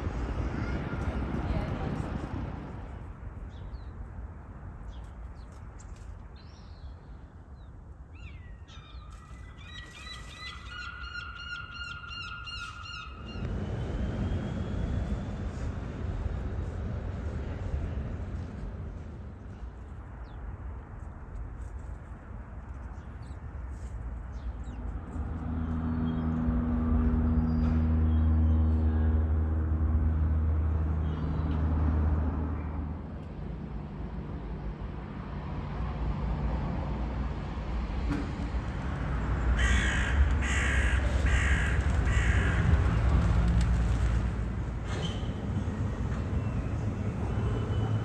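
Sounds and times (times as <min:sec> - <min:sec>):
low traffic rumble: 0:00.0 - 0:48.0.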